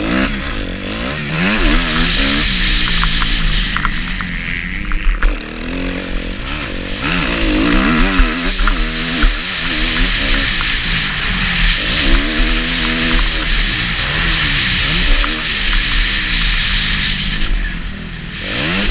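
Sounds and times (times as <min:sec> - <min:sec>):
motocross engine revving: 0:00.0 - 0:18.9.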